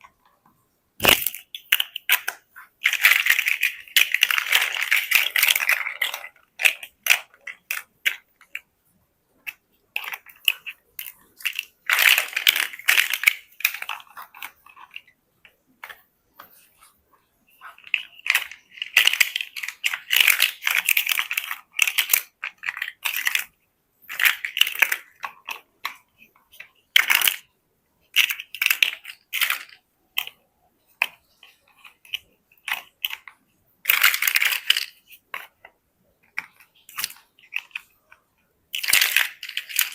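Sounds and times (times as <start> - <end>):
plastic bricks clicking: 1.0 - 8.7, 9.4 - 16.6, 17.5 - 27.5, 28.1 - 39.9.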